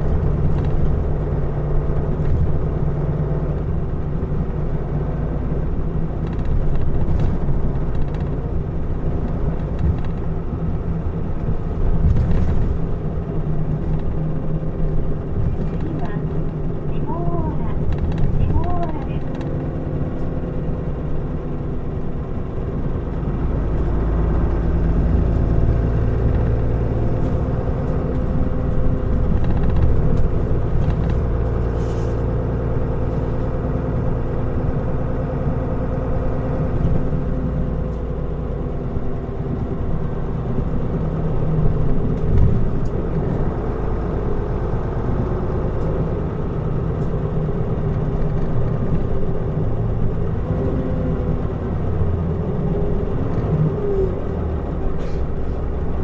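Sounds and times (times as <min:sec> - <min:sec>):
bus diesel engine running: 0:00.0 - 0:56.0
road noise: 0:00.0 - 0:56.0.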